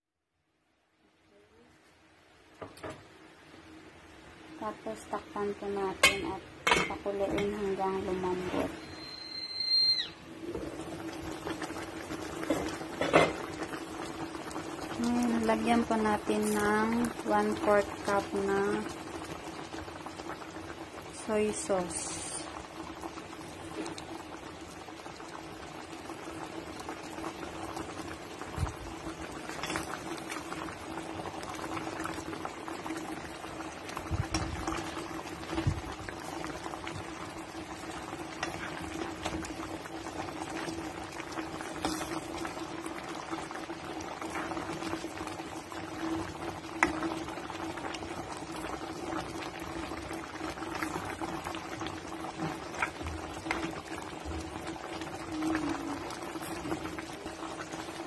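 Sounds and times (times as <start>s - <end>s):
pot of sauce bubbling: 2.5s - 58.0s.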